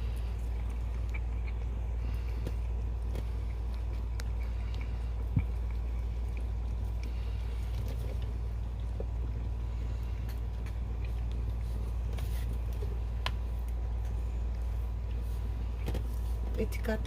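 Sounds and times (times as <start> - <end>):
cat licking kitten: 0.0 - 17.0
low hum: 0.0 - 17.0.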